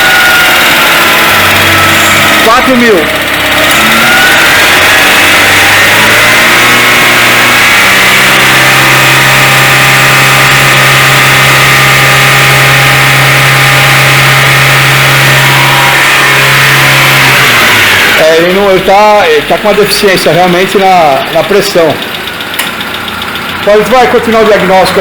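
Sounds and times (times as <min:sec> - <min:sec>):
car engine held at high revs: 0:00.0 - 0:25.0.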